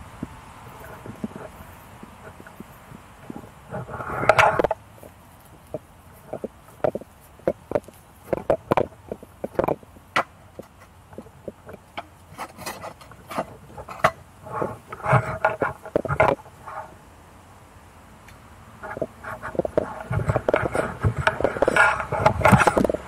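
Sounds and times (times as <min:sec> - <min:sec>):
handling knocks and scrapes: 0:00.2 - 0:17.0, 0:18.8 - 0:23.0.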